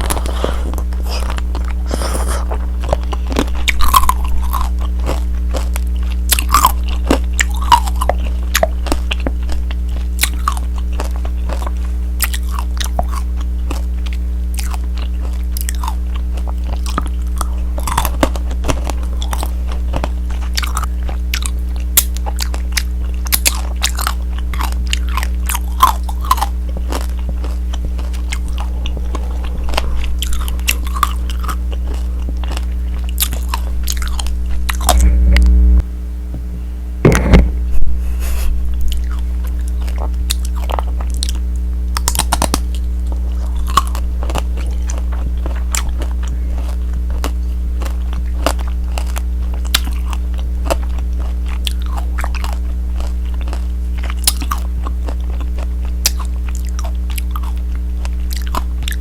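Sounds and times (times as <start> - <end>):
candy crunching between teeth: 0.0 - 35.0, 38.7 - 59.0
steady low hum: 0.0 - 59.0.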